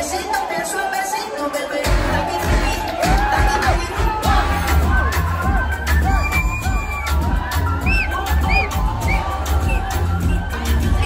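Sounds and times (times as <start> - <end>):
loud dance music with heavy bass: 0.0 - 11.0.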